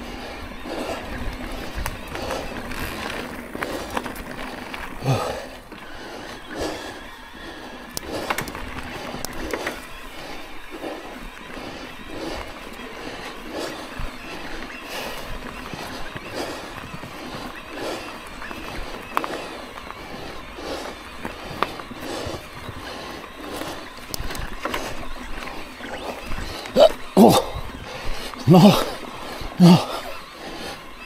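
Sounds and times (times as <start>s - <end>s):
bike clicks: 0.0s - 31.0s
rider puffing hard: 0.0s - 31.0s
trail and wind noise: 0.0s - 31.0s.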